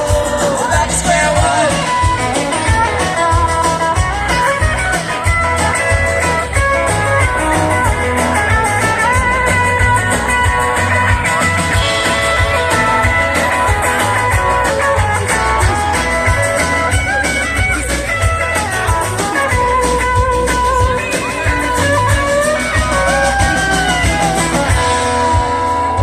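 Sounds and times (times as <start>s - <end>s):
lead guitar: 0.0s - 26.0s
live band playing: 0.0s - 26.0s.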